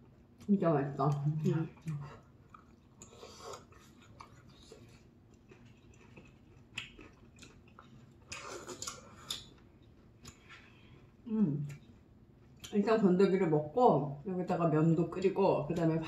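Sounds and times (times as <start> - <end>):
soft chewing: 0.0 - 12.9.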